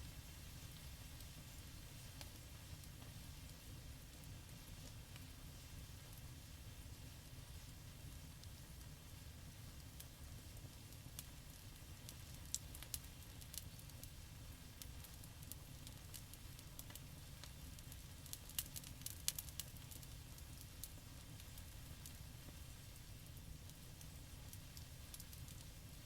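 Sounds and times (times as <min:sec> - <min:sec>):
campfire crackling and popping: 0:02.1 - 0:05.3, 0:06.0 - 0:09.0, 0:09.7 - 0:26.0.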